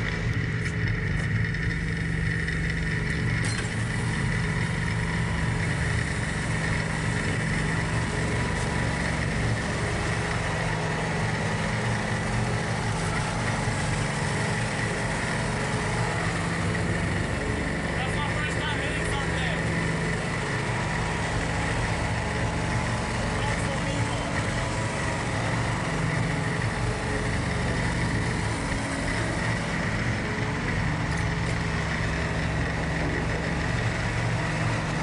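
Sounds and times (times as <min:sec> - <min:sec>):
steady high whine: 0:00.0 - 0:35.0
tractor diesel engine running: 0:00.0 - 0:35.0.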